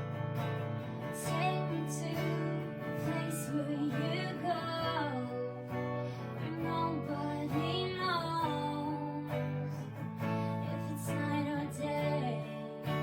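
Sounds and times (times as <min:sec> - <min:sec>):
acoustic guitar strumming: 0:00.0 - 0:13.0
woman singing: 0:01.0 - 0:13.0.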